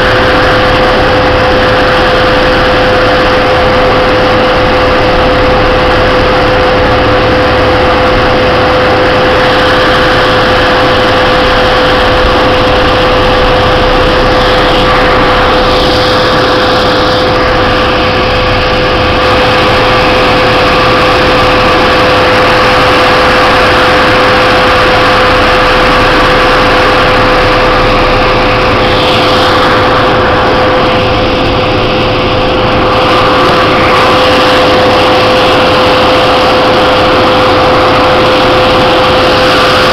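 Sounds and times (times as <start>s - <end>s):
constant whine: 0.0s - 39.9s
diesel engine and tracks running: 0.0s - 39.9s.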